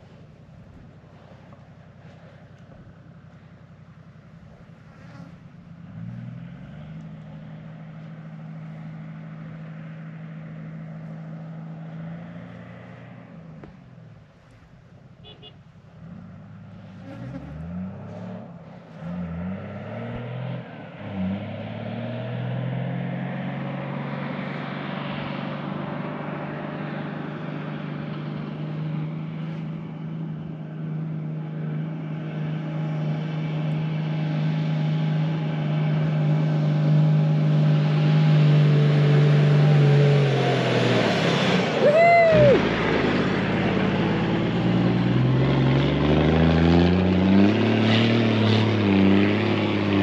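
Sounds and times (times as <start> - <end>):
engine labouring uphill: 0.0 - 50.0.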